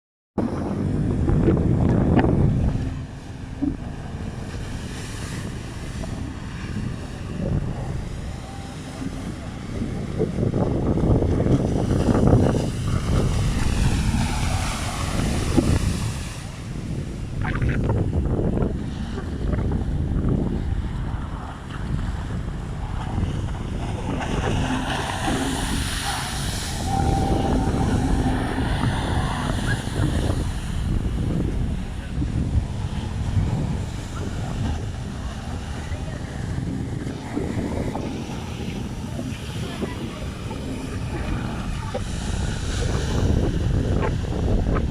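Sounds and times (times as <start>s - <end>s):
jet ski engine droning: 0.4s - 44.9s
wind buffeting microphone: 0.4s - 44.9s.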